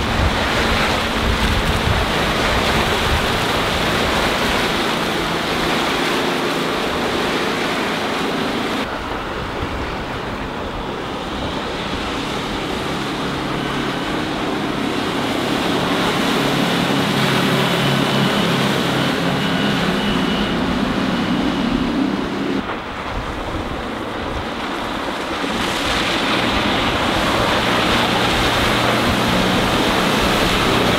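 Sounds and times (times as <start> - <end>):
boat engine drone: 0.0 - 30.9
rushing hull and wake water: 0.0 - 30.9
wind noise: 0.0 - 30.9.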